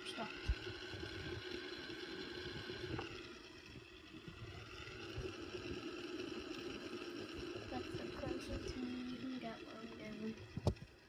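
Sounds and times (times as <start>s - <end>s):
fidget spinners whirring: 0.0s - 11.0s.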